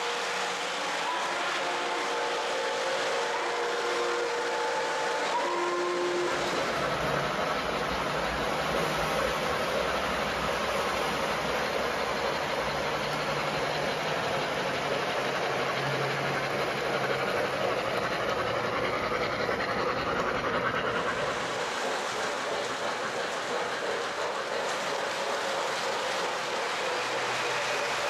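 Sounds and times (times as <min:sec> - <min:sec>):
steam hiss: 0:00.0 - 0:28.0
model train wheels clattering: 0:05.3 - 0:28.0.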